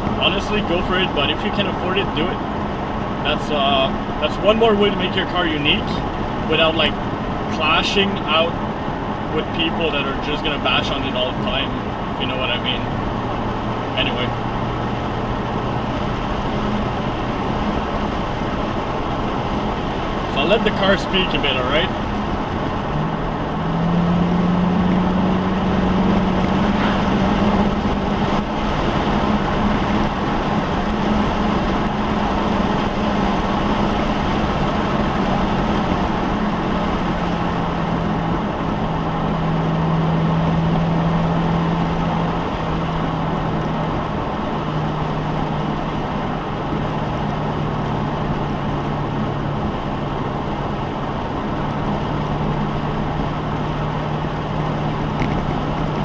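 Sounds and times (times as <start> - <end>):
car engine droning: 0.0 - 56.0
road noise: 0.0 - 56.0.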